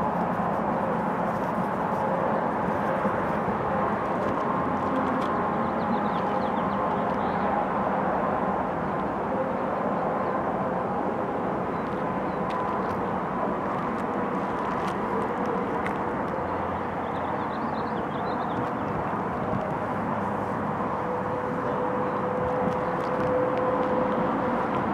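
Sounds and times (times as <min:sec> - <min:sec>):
diesel locomotive engine hum: 0:00.0 - 0:24.9.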